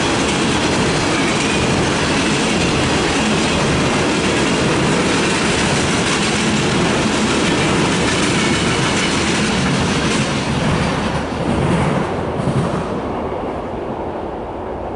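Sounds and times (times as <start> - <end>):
freight train rolling past: 0.0 - 14.9.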